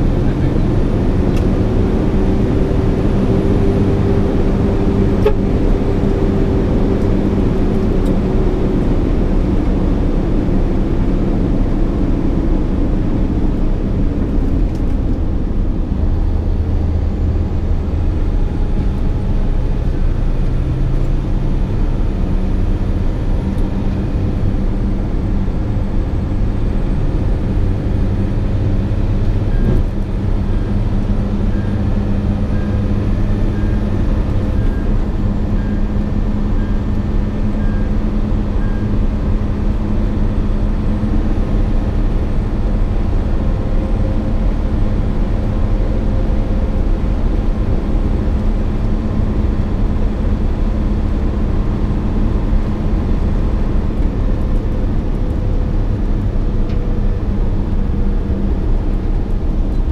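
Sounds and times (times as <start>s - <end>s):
truck engine drone from cab: 0.0s - 59.9s.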